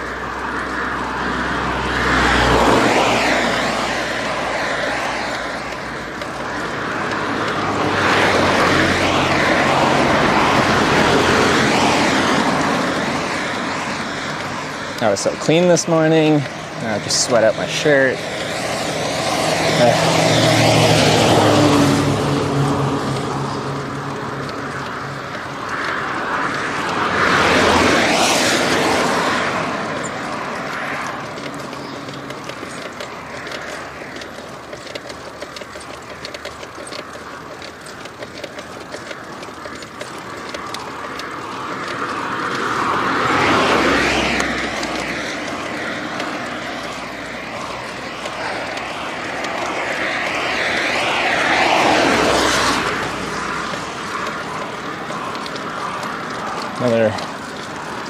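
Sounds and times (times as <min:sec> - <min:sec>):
cars passing: 0:00.0 - 0:58.0
steady rushing noise: 0:00.0 - 0:58.0.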